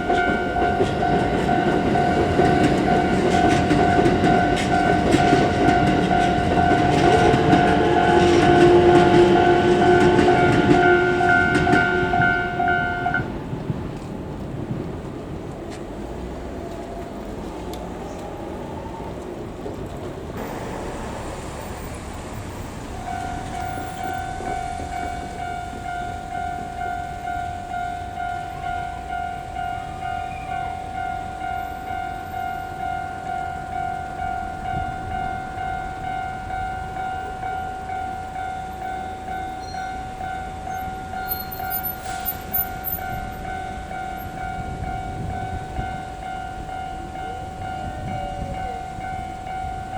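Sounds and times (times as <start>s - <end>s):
level crossing warning bell: 0.0s - 13.4s, 20.4s - 49.9s
train on track: 0.0s - 49.9s.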